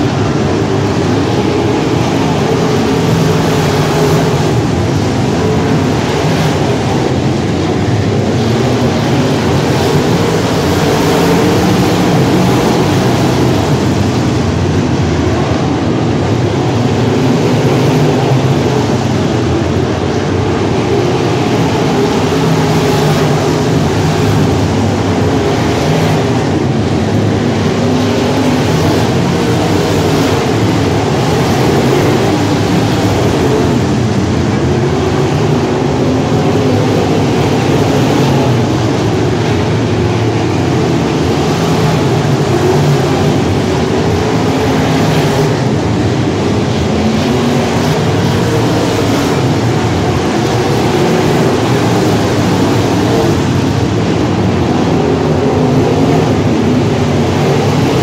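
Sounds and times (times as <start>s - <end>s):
race car engines: 0.0s - 58.0s.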